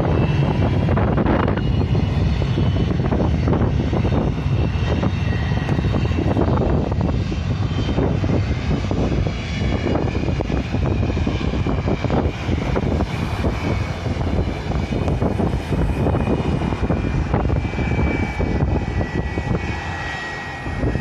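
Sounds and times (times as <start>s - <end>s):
airliner engines running: 0.0s - 21.0s.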